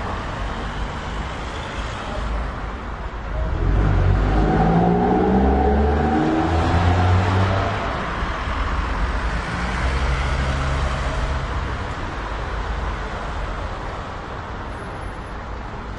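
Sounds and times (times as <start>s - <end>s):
vehicles passing: 0.0s - 15.9s.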